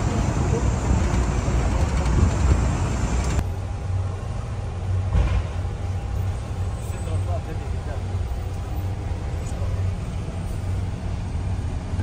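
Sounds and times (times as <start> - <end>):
bus engine rumble: 0.0 - 12.0
street traffic: 0.0 - 12.0.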